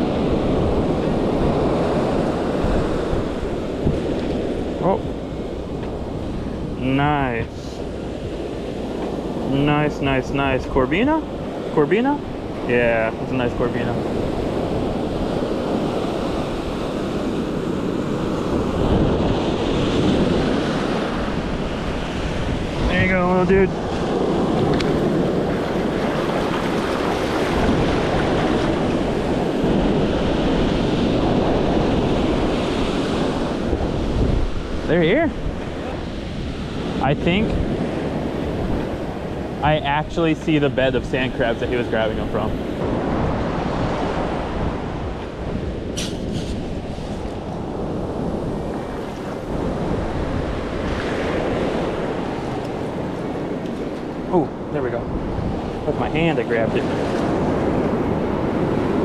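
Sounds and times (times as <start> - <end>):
ocean surf washing over sand: 0.0 - 59.0
wind on microphone: 0.0 - 59.0.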